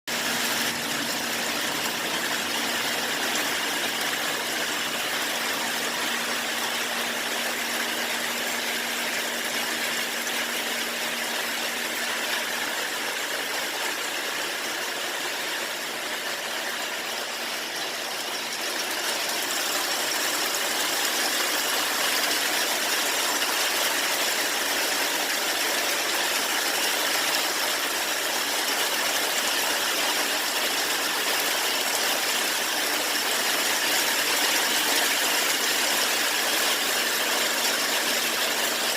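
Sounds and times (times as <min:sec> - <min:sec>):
steady rainfall: 0:00.1 - 0:38.9.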